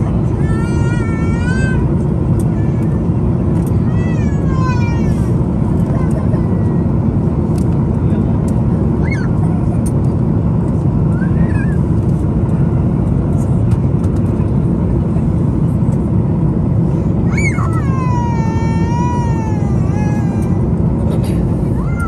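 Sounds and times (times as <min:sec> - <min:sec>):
jet airliner cabin noise: 0:00.0 - 0:22.0.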